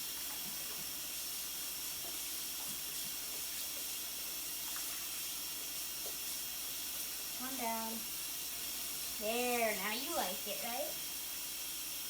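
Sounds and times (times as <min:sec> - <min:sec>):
tap running water: 0:00.0 - 0:12.0.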